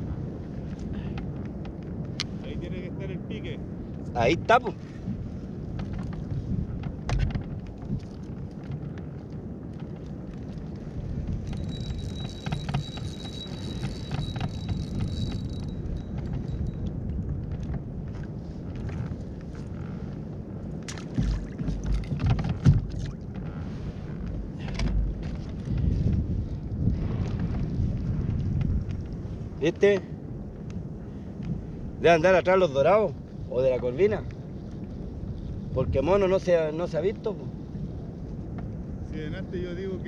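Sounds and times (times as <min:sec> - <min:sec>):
wind rumbling on microphone: 0:00.0 - 0:40.0.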